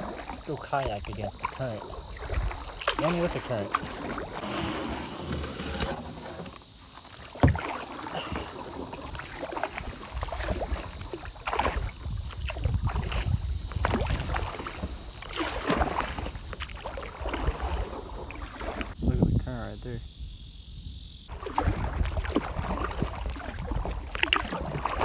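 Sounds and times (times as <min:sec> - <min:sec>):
paddle splashing in water: 0:00.0 - 0:19.0, 0:21.3 - 0:25.0.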